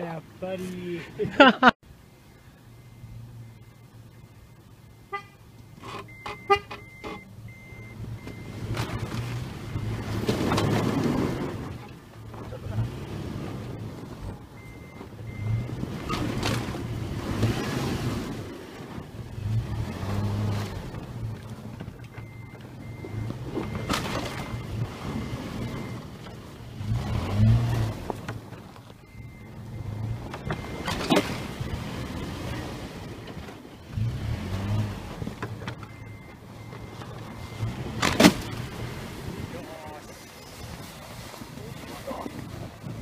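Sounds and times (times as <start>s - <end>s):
suv engines revving: 0.0s - 43.0s
tyres spinning in snow: 7.9s - 35.8s, 36.4s - 43.0s.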